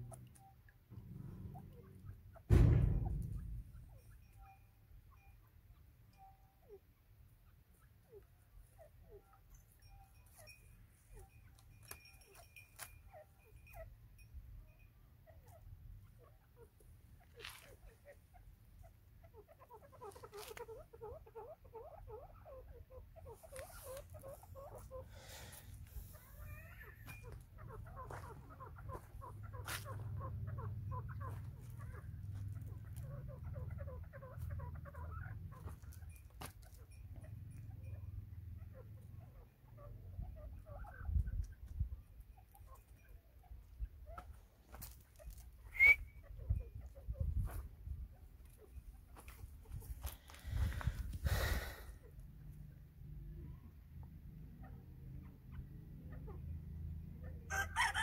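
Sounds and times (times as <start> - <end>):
young birds peeping: 0.0 - 58.0.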